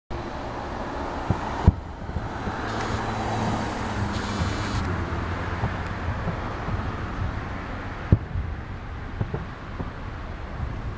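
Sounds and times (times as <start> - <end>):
traffic rumble: 0.1 - 10.9.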